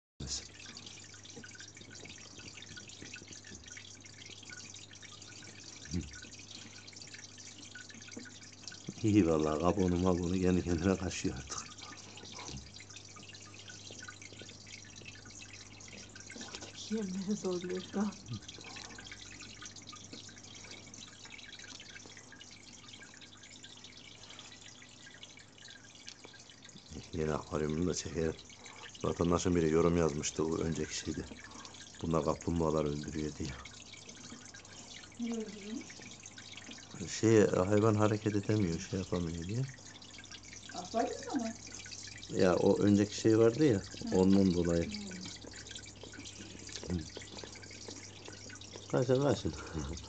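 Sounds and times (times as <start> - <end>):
water trickling: 0.2 - 50.0.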